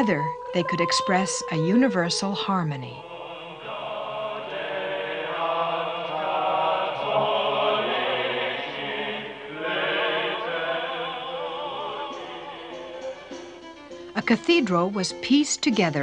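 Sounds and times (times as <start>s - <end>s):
choir singing sacred music: 0.0s - 14.1s.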